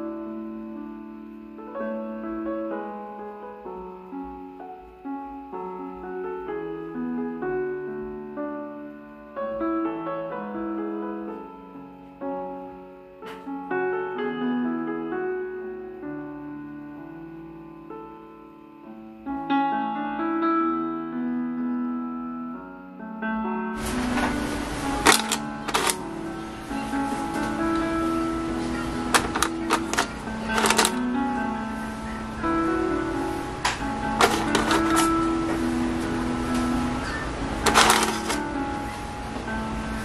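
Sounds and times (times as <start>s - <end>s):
slow solo piano piece: 0.0s - 40.0s.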